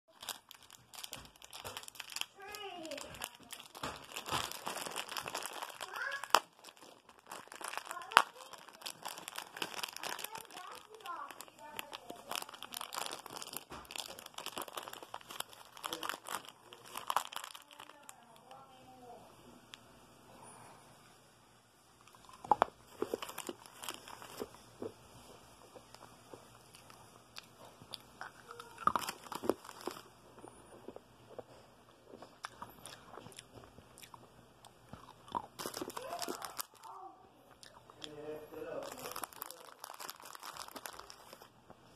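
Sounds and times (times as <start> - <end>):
candy being crunched: 0.1 - 18.7, 22.0 - 31.4, 32.1 - 41.6
plastic wrapper crinkling: 0.1 - 18.7, 22.0 - 31.4, 34.9 - 41.9.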